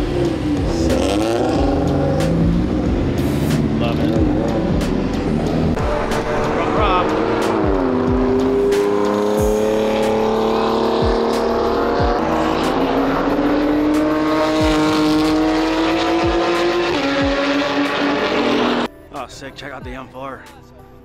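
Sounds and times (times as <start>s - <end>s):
sports car engines accelerating: 0.0s - 18.9s.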